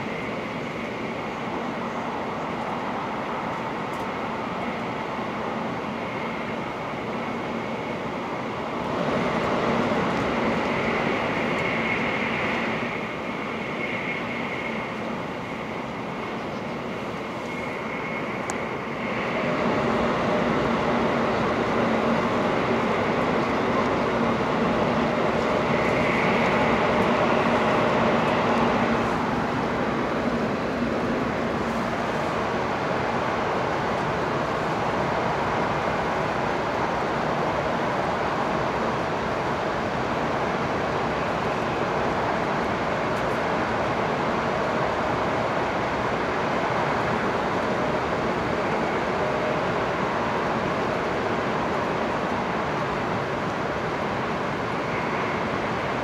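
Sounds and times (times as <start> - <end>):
train rumble inside carriage: 0.0 - 56.0.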